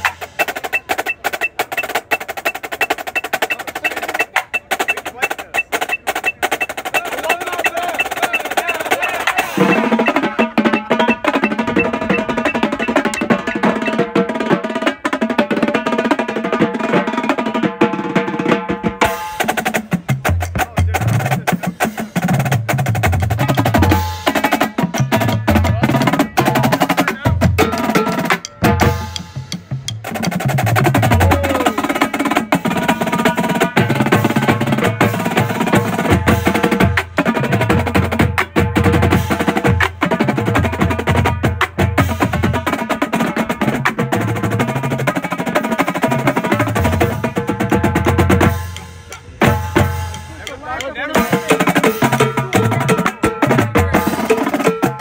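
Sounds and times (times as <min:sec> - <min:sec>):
snare drums playing rolls: 0:00.0 - 0:55.0.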